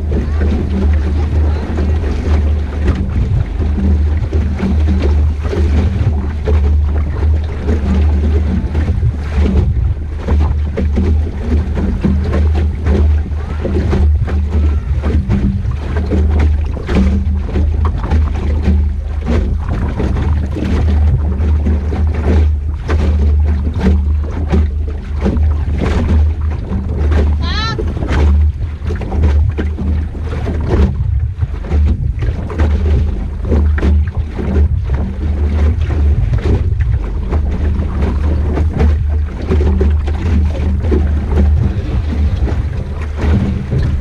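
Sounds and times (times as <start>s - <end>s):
water slapping against hull: 0.0s - 44.0s
wind buffeting microphone: 0.0s - 44.0s.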